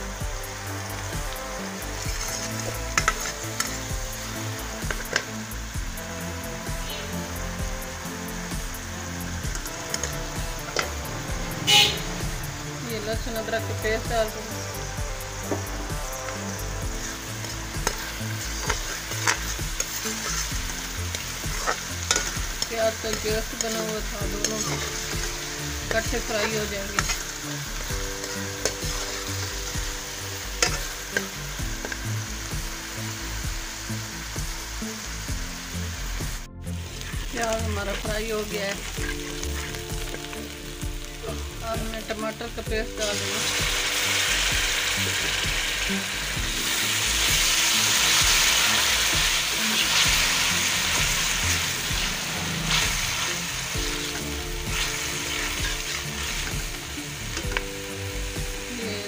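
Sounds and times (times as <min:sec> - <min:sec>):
onion frying in hot oil: 0:00.0 - 0:59.0
spatula stirring and scraping pan: 0:00.3 - 0:07.5, 0:08.2 - 0:41.0, 0:43.0 - 0:58.7.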